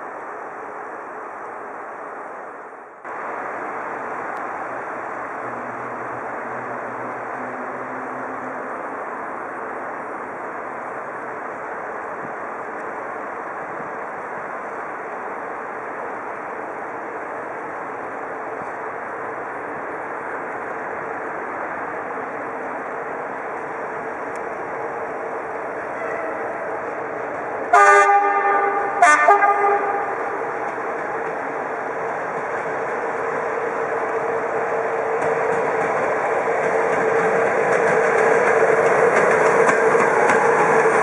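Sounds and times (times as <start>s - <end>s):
train running steadily: 0.0s - 41.0s.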